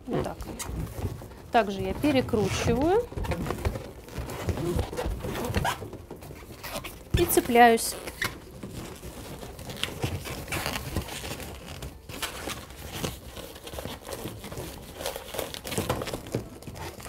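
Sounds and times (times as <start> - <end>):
balloons squeaking as twisted: 0.0 - 17.0.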